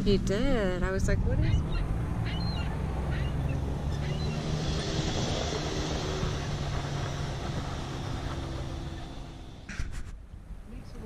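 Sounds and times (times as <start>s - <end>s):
engine drone: 0.0s - 10.0s.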